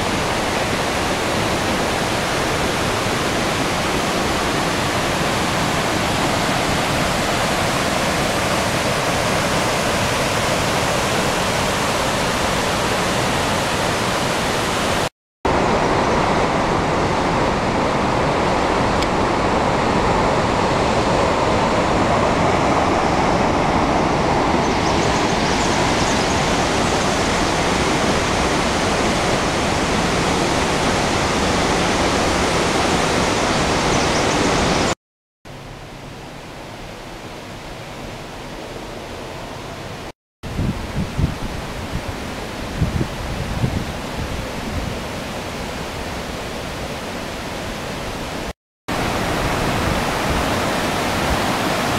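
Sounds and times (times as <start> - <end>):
creek and waterfall rushing: 0.0 - 40.1, 40.8 - 51.9.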